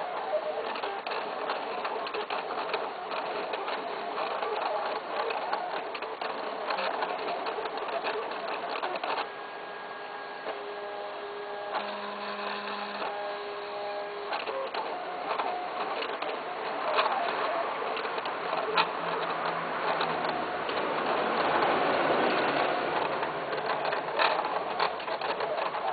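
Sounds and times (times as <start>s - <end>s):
small machine rattling: 0.6s - 25.9s.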